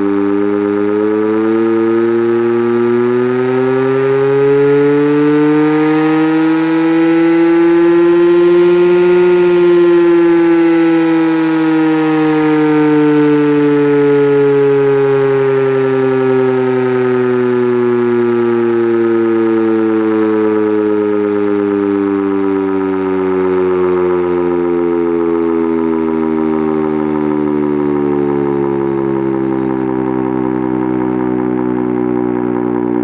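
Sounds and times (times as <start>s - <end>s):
siren tone sliding down: 0.0s - 33.0s.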